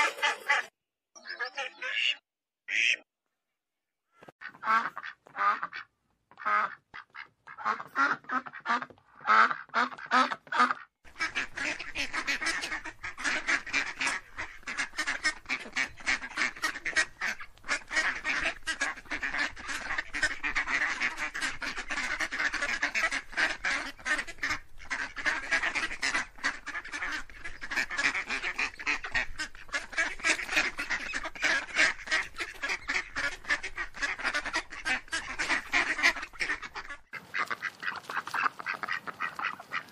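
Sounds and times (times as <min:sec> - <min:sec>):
flock of geese honking: 0:07.6 - 0:39.9.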